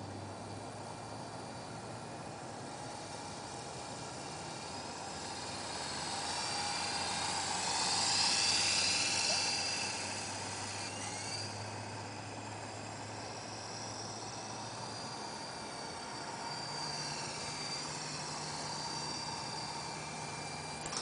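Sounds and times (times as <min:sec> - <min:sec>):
toy helicopter motor whining: 0:00.0 - 0:21.0.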